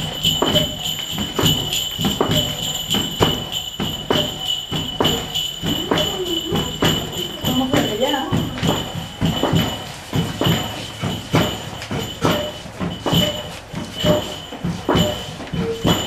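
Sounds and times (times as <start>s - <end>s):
small bells jingling: 0.0s - 16.0s.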